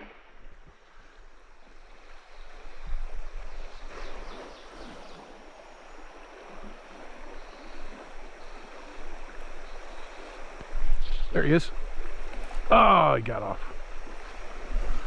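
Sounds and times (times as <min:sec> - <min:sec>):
stream water rushing over rocks: 0:01.7 - 0:15.0.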